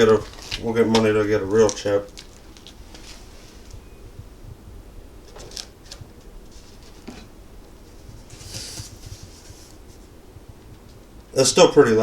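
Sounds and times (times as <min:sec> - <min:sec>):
faint clicks and rustles: 0:00.0 - 0:04.6, 0:05.2 - 0:11.4
soft hiss: 0:00.0 - 0:12.0
low hum: 0:01.4 - 0:11.4.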